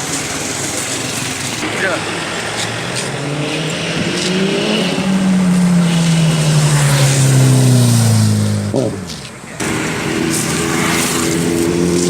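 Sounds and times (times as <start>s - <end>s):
sports car engine running: 0.0s - 12.0s.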